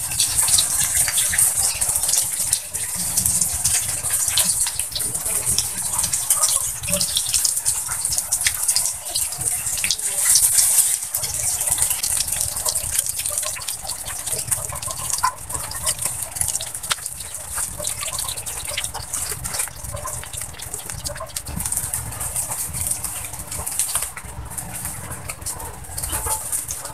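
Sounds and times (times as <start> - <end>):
patties sizzling in oil: 0.0 - 26.9.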